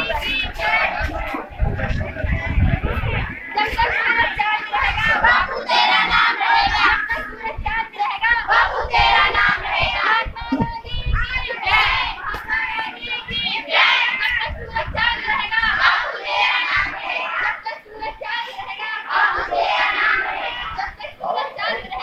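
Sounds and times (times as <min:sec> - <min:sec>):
children singing in unison: 0:00.0 - 0:22.0.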